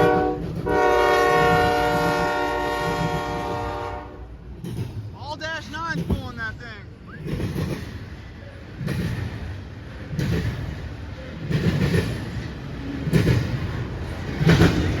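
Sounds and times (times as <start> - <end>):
train wheels clattering over rail joints: 0.0 - 3.7, 4.4 - 15.0
rumble of freight cars: 0.0 - 15.0.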